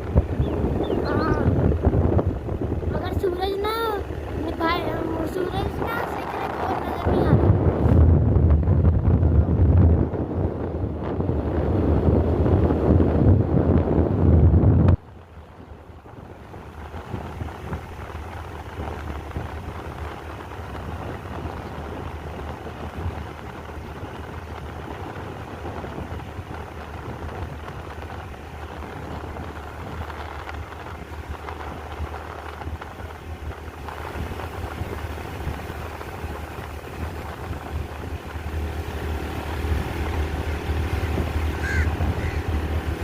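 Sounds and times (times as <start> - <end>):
steady background rumble: 0.0 - 43.0.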